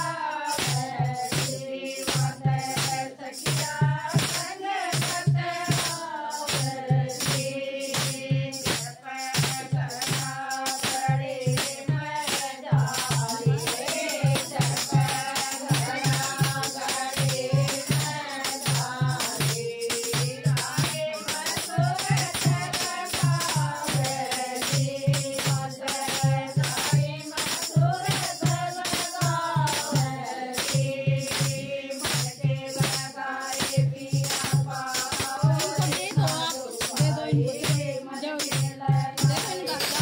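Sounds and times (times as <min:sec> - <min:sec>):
women singing: 0:00.0 - 0:40.0
hand drum beat: 0:00.6 - 0:40.0.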